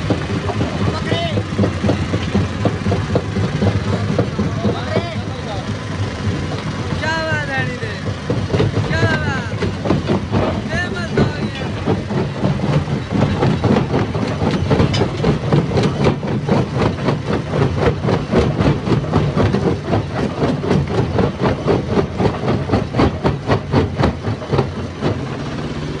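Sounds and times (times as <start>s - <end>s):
stone crusher drone: 0.0s - 26.0s.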